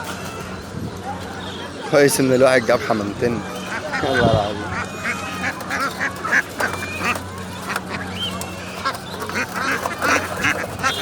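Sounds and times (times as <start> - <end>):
caged birds calling: 0.0 - 11.0.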